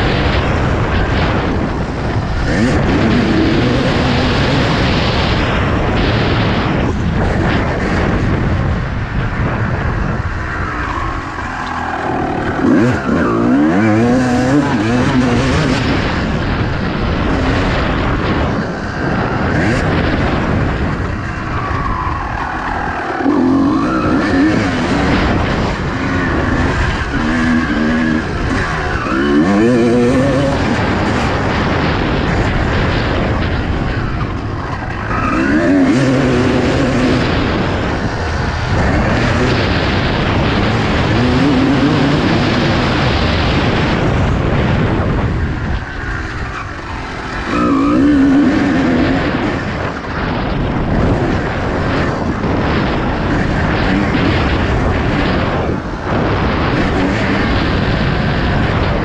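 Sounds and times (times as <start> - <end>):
constant rushing noise: 0.0 - 59.0
motocross bike engine revving: 0.0 - 59.0.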